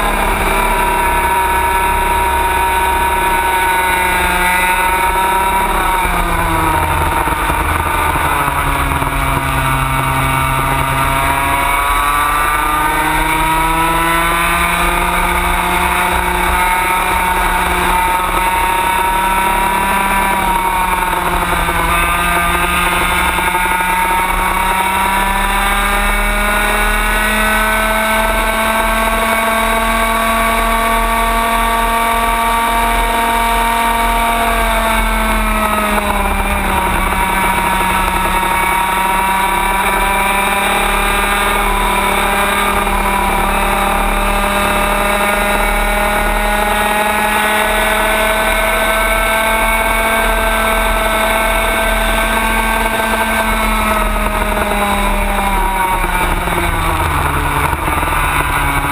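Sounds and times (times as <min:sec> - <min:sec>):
kart engine at high revs: 0:00.0 - 0:58.9.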